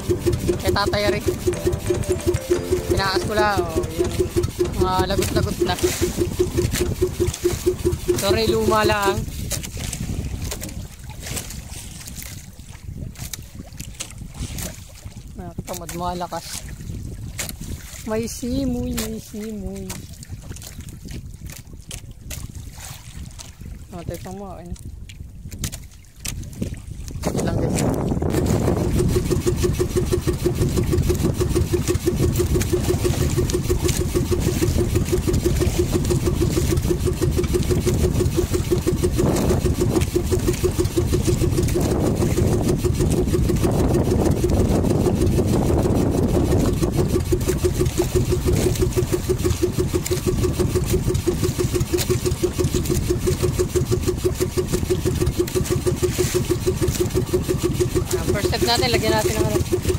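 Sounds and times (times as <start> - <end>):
small boat engine puttering: 0.0 - 22.6, 23.4 - 59.9.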